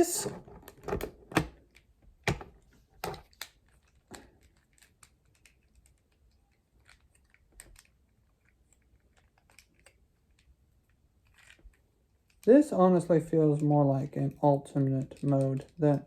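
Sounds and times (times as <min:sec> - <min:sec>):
plastic toy parts clicking: 0:00.1 - 0:12.6, 0:13.4 - 0:16.0.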